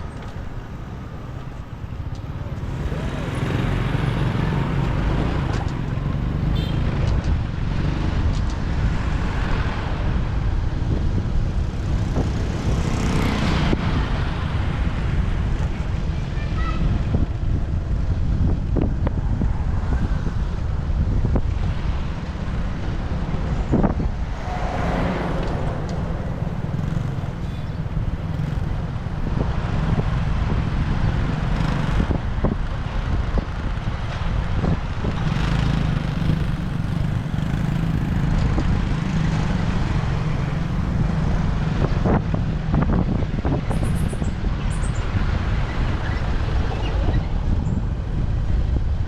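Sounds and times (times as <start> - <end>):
motorcycle engine drone: 0.0 - 9.0, 17.2 - 49.0
road traffic: 0.0 - 49.0
wind rumble on microphone: 0.0 - 49.0.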